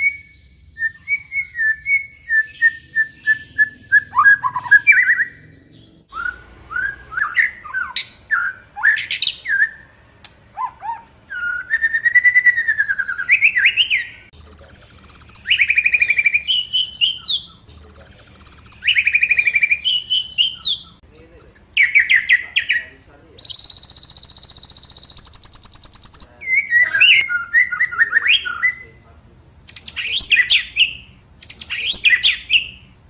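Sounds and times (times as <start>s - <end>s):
songbird singing varied song: 0.0s - 33.0s.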